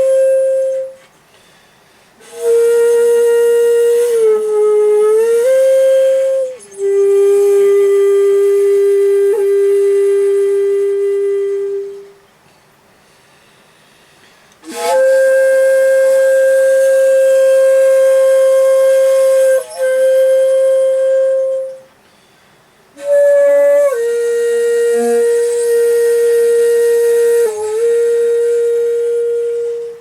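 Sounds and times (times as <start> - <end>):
shakuhachi flute playing long notes: 0.0 - 1.2, 2.1 - 12.4, 14.5 - 30.0.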